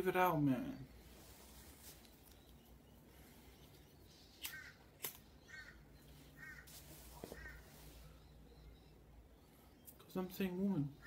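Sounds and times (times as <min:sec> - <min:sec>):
faint bird calls: 0:01.0 - 0:10.1.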